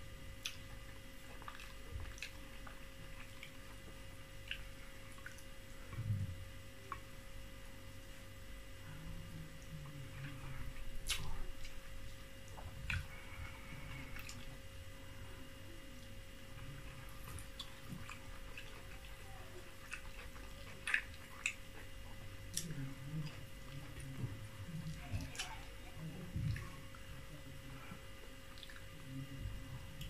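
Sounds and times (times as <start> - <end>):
faint steady hum: 0.0 - 30.0
person chewing with mouth smacks: 0.4 - 7.1, 9.6 - 14.6, 15.9 - 27.2, 28.5 - 30.0.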